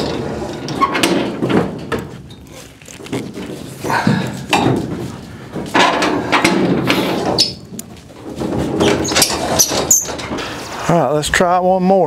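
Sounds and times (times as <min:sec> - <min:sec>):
metal trailer knocking and rattling: 0:00.0 - 0:02.4, 0:03.1 - 0:10.7.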